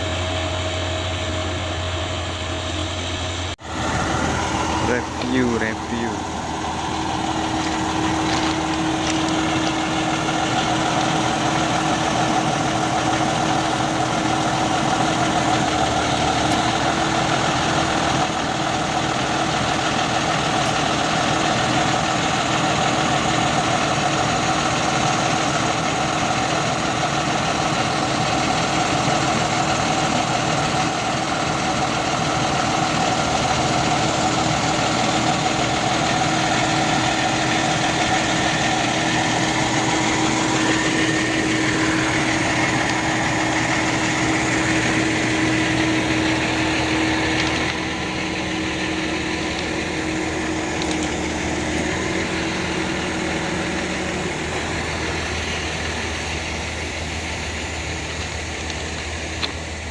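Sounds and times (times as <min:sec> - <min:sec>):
two-tone engine drone: 0:00.0 - 0:59.9.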